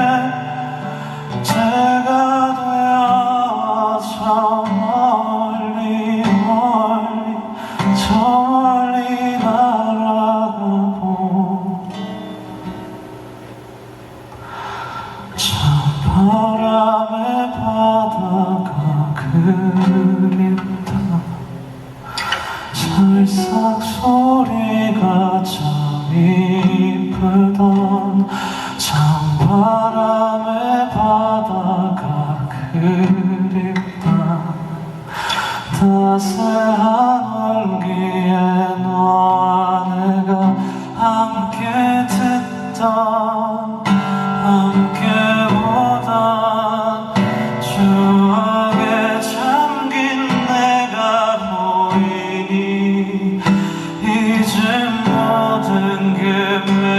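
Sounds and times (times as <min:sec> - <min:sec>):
man singing: 0:00.0 - 0:12.4, 0:15.1 - 0:56.9.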